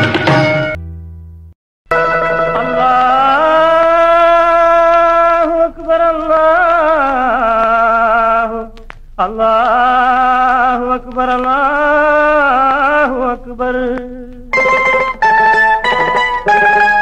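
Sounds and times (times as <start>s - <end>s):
wordless singing with vibrato: 1.9s - 17.0s.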